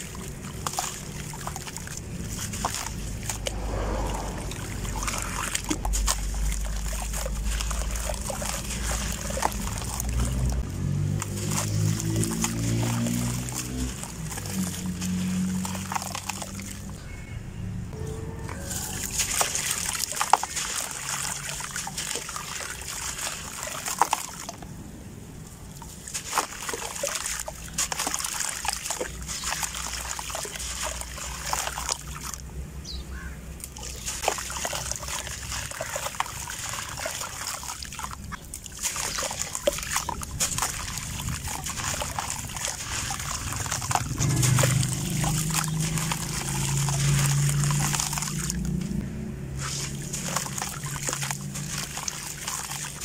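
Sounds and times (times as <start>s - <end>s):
grit splashing into water: 0.0s - 17.0s, 18.8s - 24.7s, 25.6s - 32.5s, 33.6s - 53.0s.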